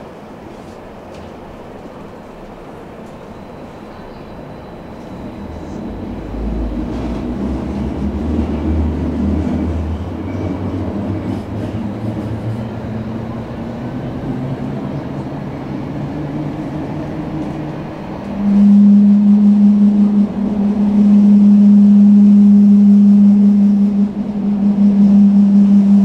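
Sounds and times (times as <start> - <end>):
tram motors and wheels rumbling: 0.0 - 26.0
loud steady low tone: 4.8 - 26.0.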